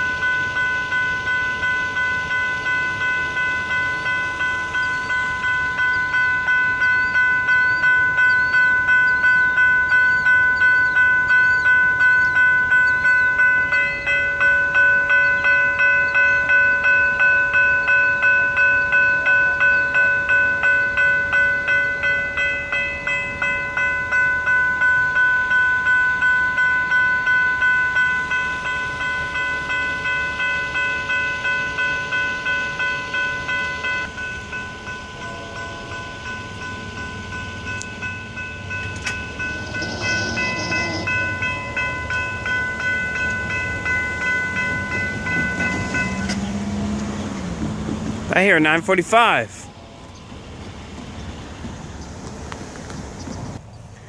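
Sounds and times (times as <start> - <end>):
lower-pitched bell: 0.0 - 47.0
electronic crossing bells ringing: 0.0 - 47.3, 48.3 - 52.0.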